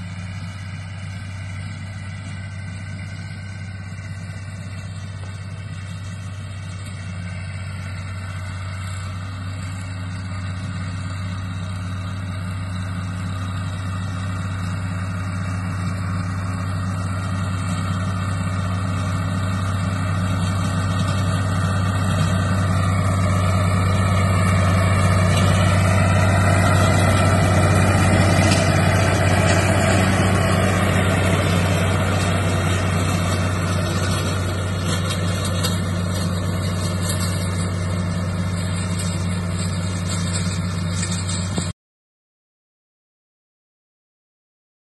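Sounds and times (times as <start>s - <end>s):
diesel tractor engine running: 0.0s - 41.7s.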